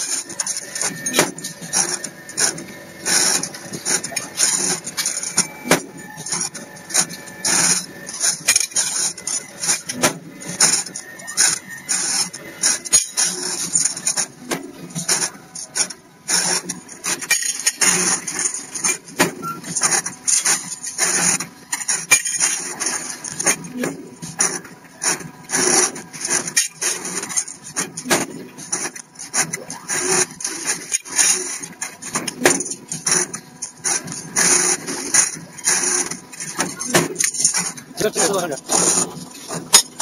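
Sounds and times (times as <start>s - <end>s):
steel bar scraping: 0.0s - 40.0s.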